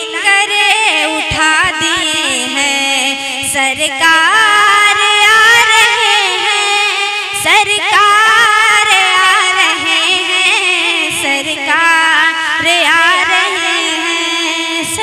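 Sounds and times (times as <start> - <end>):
girl singing into microphone: 0.0 - 15.0.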